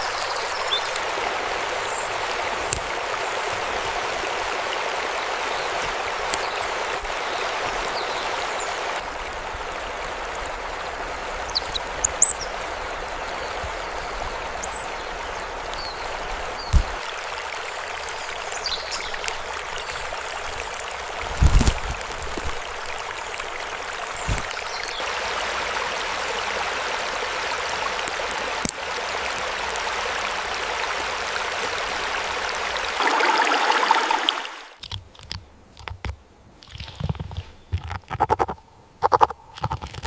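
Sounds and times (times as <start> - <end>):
stream water rushing: 0.0 - 34.8.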